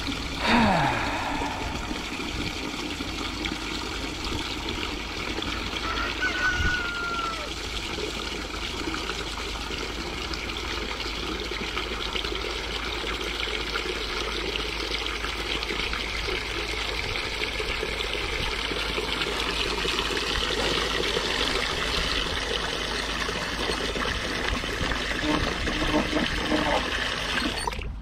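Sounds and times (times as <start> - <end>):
water running into container: 0.0 - 28.0.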